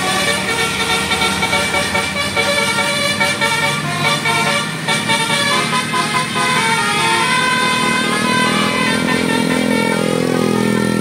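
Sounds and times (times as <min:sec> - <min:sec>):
bus air horn playing a tune: 0:00.0 - 0:11.0.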